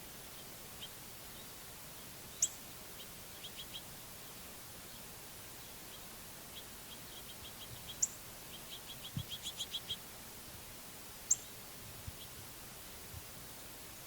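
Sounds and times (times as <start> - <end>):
songbirds chip notes: 0.0 - 10.1, 11.2 - 12.5
faint outdoor hiss: 0.0 - 14.0.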